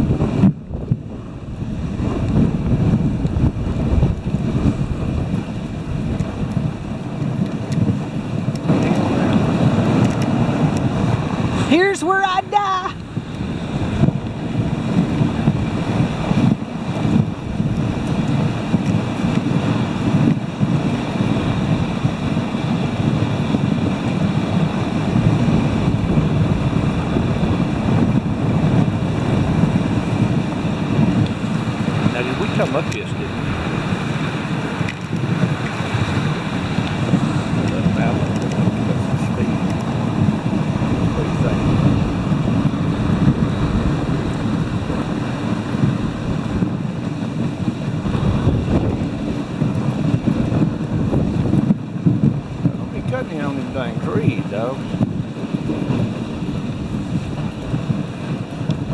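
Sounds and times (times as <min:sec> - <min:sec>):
sled running over snow: 0:00.0 - 0:58.9
wind buffeting microphone: 0:00.0 - 0:58.9.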